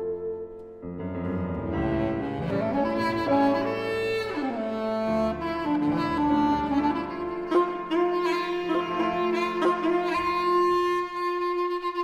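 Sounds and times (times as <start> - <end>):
saxophone quartet playing: 1.7 - 12.0.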